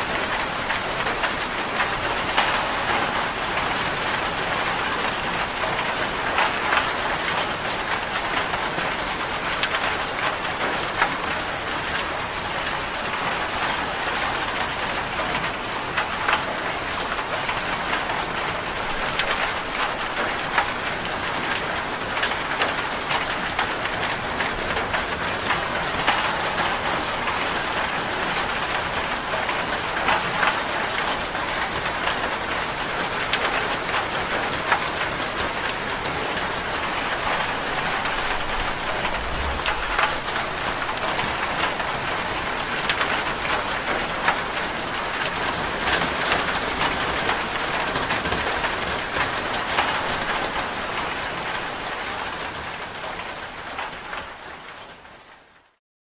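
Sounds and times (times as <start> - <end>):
rain pattering on a surface: 0.0 - 55.8.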